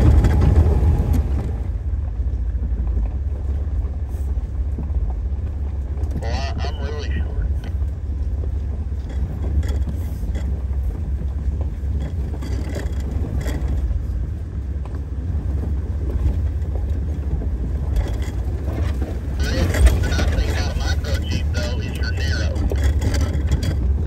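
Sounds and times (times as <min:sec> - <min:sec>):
off-road vehicle engine running low: 0:00.0 - 0:24.0
faint rattles: 0:04.7 - 0:24.0.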